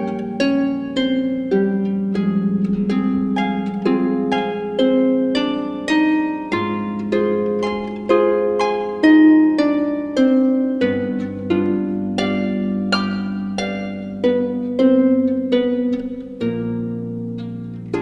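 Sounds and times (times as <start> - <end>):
plucked harp-like melody: 0.0 - 18.0.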